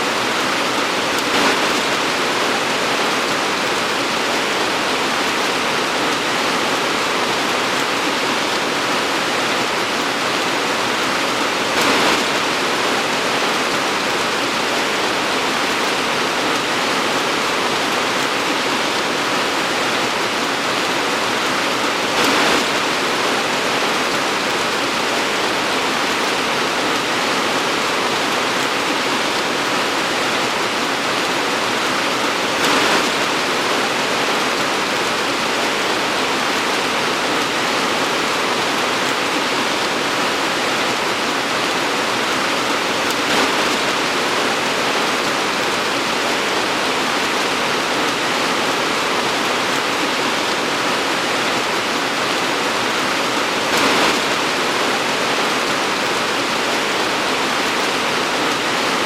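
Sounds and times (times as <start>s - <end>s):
torrential rain: 0.0s - 59.0s.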